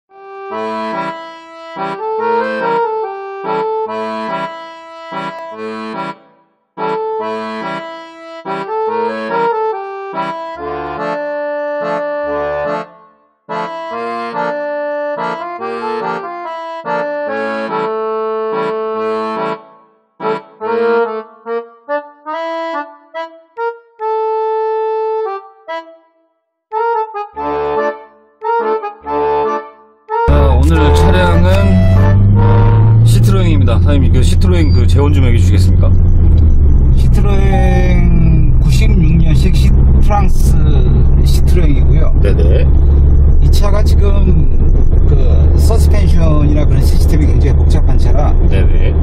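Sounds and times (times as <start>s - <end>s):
instrumental background music: 0.1s - 48.9s.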